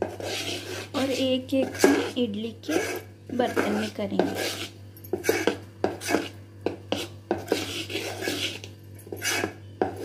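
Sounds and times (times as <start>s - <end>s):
spoon beating batter in metal bowl: 0.0s - 10.0s.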